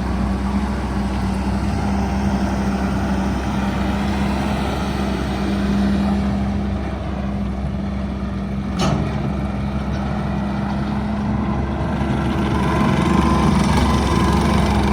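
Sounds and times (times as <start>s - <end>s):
skid steer engine running: 0.0s - 14.9s.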